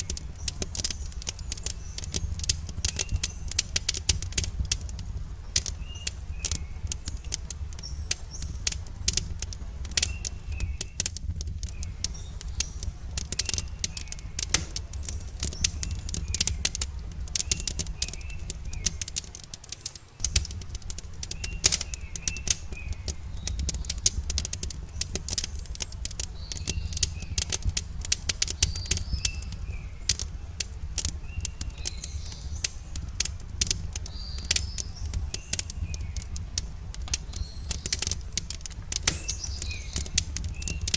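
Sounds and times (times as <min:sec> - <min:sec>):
campfire crackling and popping: 0:00.0 - 0:40.9
small birds chirping: 0:00.0 - 0:40.9.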